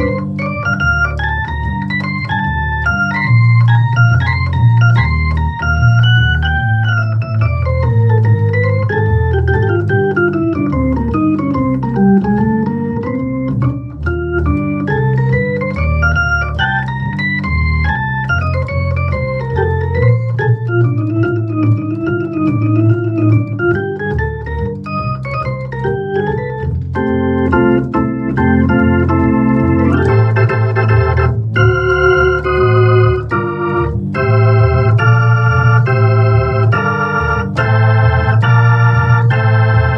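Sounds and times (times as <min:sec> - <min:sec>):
jazz organ playing: 0:00.0 - 0:39.9.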